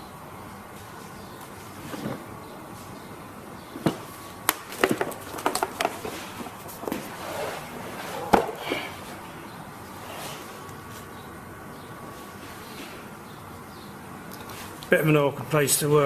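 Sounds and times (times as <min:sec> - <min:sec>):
faint steady background noise: 0:00.0 - 0:16.0.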